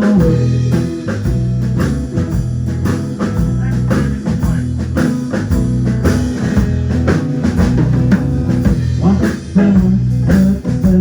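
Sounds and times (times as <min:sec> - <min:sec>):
blues band playing: 0:00.0 - 0:11.0.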